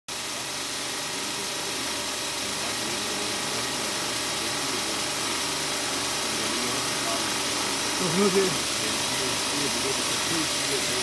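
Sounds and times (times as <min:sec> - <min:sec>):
machine motor running: 0:00.1 - 0:11.0
polishing mop buffing hiss: 0:00.1 - 0:11.0.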